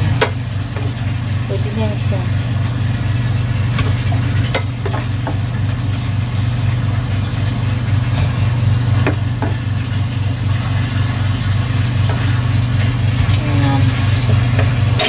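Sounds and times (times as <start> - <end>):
dough deep-frying in oil: 0.0 - 15.0
loud steady low hum: 0.0 - 15.0.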